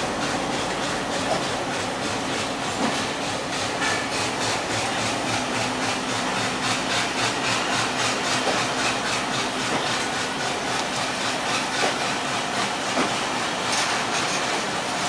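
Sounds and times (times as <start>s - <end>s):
train wheels rumbling on rail: 0.0s - 15.0s
wheels clicking over rail joints: 0.0s - 15.0s.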